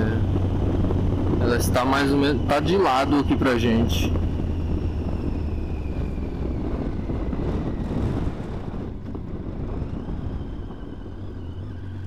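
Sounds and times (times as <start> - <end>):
motorcycle engine hum: 0.0 - 12.0
wind buffeting microphone: 0.0 - 12.0.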